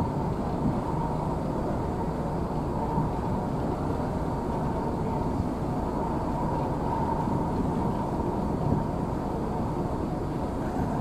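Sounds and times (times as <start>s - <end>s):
faint steady hum: 0.0s - 11.0s
rush of ship wake: 0.0s - 11.0s
ship engine drone: 0.0s - 11.0s.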